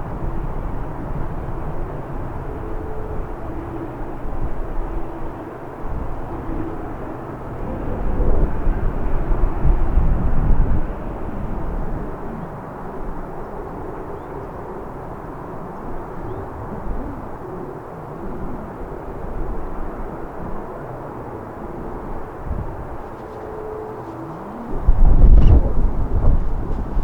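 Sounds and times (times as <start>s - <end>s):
jet engines rumbling: 0.0s - 27.0s
wind gusts buffeting microphone: 0.0s - 27.0s.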